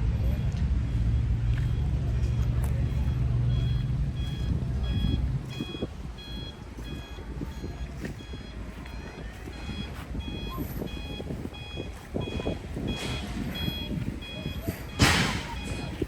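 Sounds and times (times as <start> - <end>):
low rumbling background noise: 0.0 - 16.0
reversing alarm beeping: 0.2 - 16.0.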